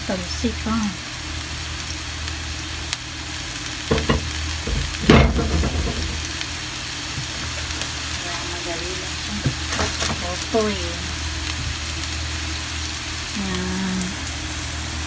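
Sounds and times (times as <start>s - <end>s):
onion sizzling in frying pan: 0.0s - 15.0s.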